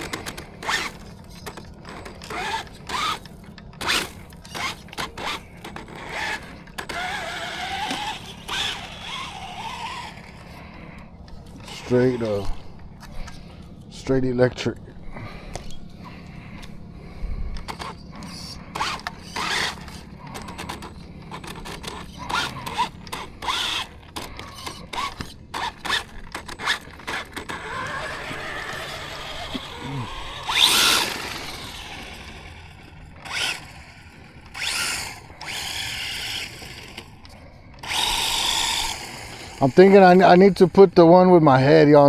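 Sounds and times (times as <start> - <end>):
electric motor whining: 0.0 - 13.6, 15.2 - 41.0.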